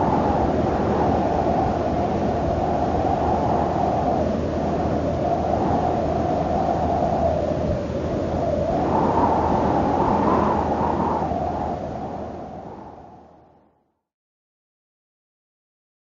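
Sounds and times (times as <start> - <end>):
rushing wind: 0.0 - 13.7.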